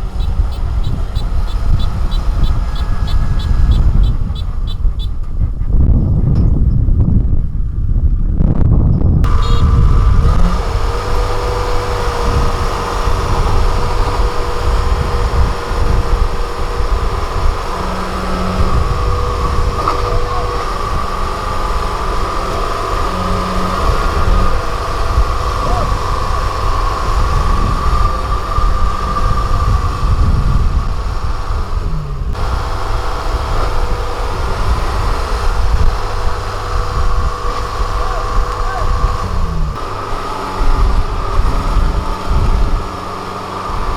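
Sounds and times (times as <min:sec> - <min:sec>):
high drive whine: 0:00.0 - 0:06.0, 0:09.2 - 0:43.9
diesel engine rumble: 0:00.0 - 0:43.9.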